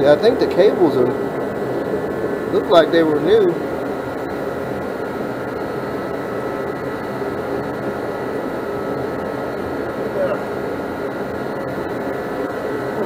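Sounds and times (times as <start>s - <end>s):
faint hum tones: 0.0s - 13.0s.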